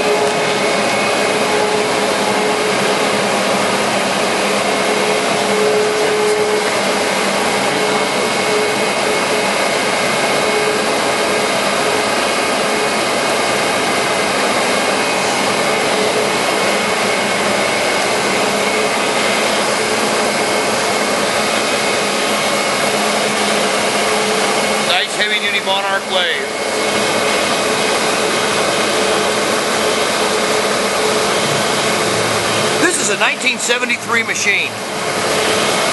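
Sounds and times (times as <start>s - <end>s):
lathe motor whirring: 0.0s - 35.9s.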